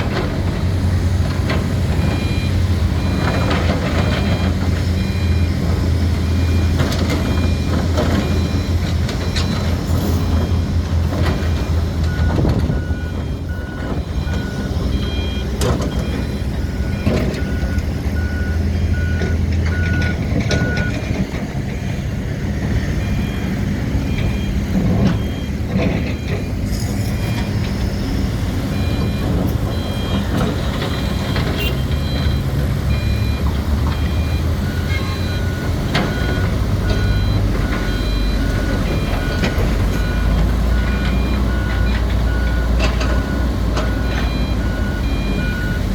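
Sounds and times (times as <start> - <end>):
diesel excavator running: 0.0 - 45.9
backup alarm beeping: 2.0 - 10.8, 11.4 - 21.0, 22.9 - 28.0, 28.7 - 45.9.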